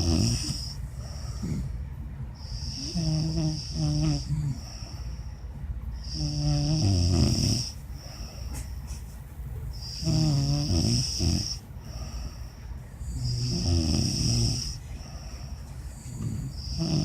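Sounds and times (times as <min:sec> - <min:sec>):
heavy snoring: 0:00.0 - 0:05.0, 0:06.0 - 0:07.8, 0:09.8 - 0:17.0.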